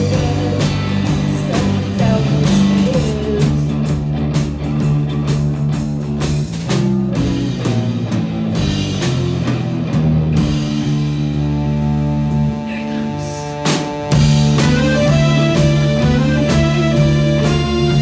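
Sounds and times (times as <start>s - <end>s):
drum kit beat: 0.0s - 18.0s
electric guitars and bass: 0.0s - 18.0s.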